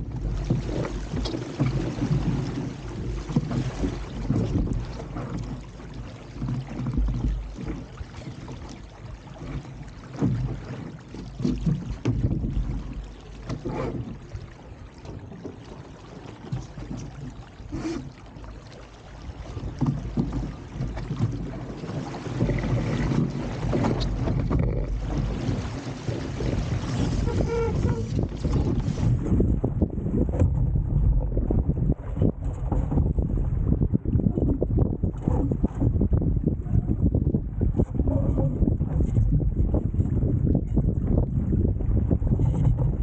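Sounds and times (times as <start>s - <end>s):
wind buffeting microphone: 0.0s - 15.5s, 19.2s - 43.0s
water rushing along hull: 0.0s - 43.0s.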